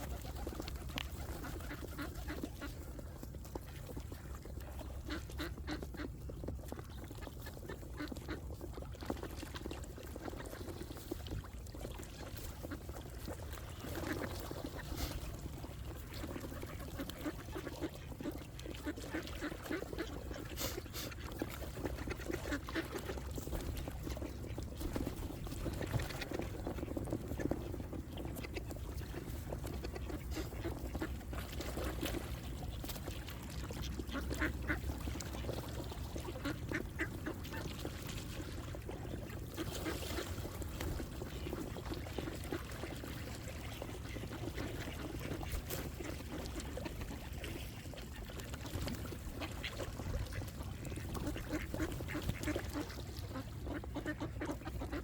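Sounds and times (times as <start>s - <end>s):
ducks quacking: 0.0s - 11.0s, 11.9s - 55.0s.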